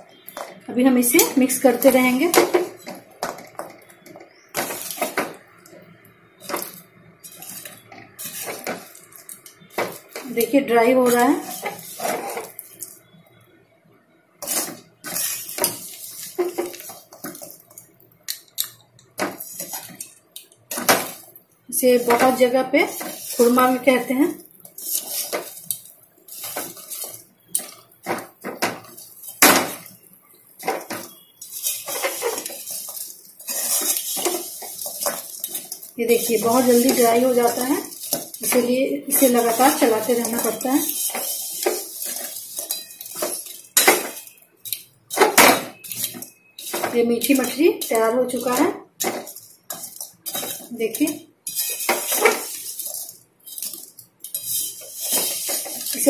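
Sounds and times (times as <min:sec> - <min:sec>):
steel ladle scraping a pan: 0:06.4 - 0:13.0, 0:14.4 - 0:17.8, 0:19.2 - 0:56.0.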